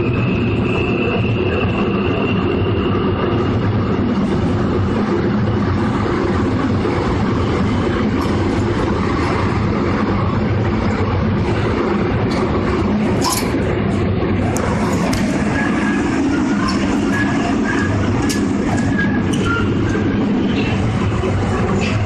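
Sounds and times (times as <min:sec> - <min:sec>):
electric train running on rails: 0:00.0 - 0:22.0.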